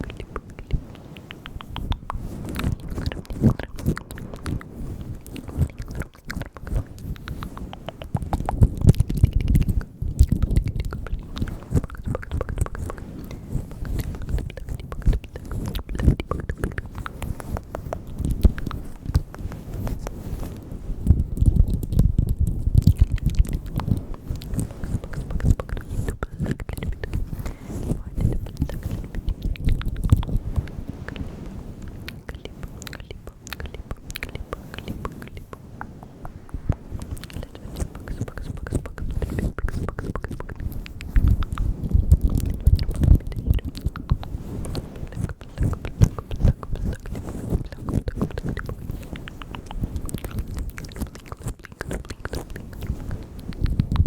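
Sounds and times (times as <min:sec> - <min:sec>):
low thumping and rubbing on microphone: 0:00.0 - 0:54.0
wet tongue and lip clicks: 0:00.0 - 0:54.0.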